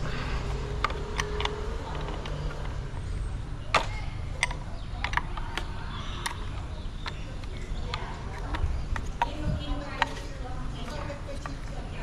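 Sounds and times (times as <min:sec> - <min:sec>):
steady low hum: 0:00.0 - 0:12.0
hand tools clicking and tapping: 0:00.4 - 0:11.8.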